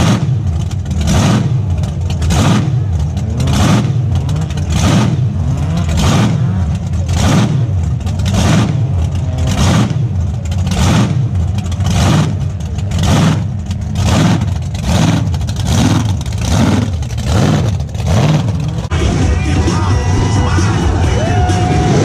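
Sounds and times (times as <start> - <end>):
car engine revving hard: 0.0 - 19.2
deep engine rumble: 0.0 - 22.0.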